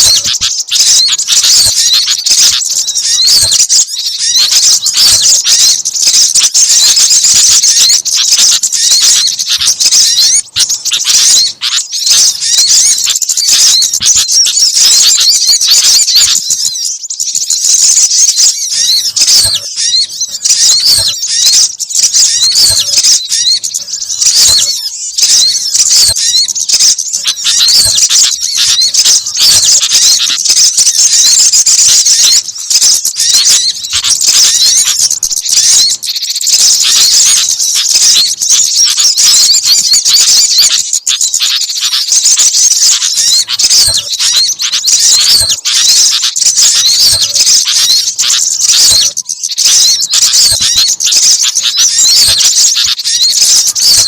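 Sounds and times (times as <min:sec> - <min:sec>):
small birds chirping and whistling: 0:00.0 - 0:54.0.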